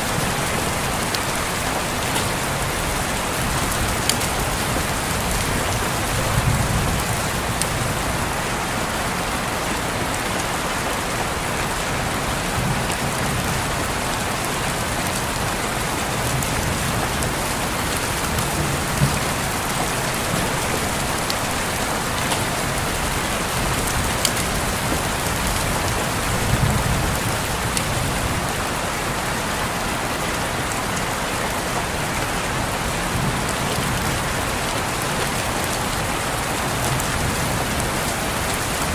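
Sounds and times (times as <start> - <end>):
rain on window glass: 0.0 - 38.9.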